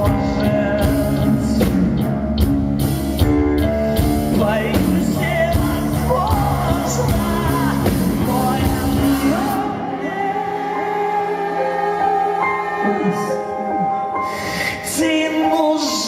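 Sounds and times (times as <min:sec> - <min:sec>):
person singing: 0:00.0 - 0:02.4, 0:04.0 - 0:16.0
live rock band playing: 0:00.0 - 0:16.0.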